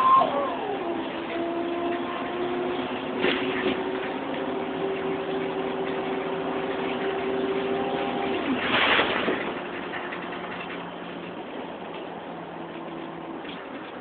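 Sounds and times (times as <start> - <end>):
bus engine and driveline whine: 0.0 - 14.0.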